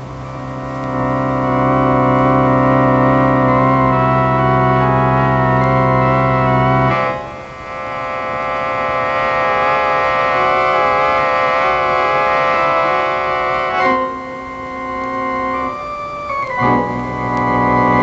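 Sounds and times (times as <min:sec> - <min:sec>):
organ chords with vibrato: 0:00.0 - 0:18.0.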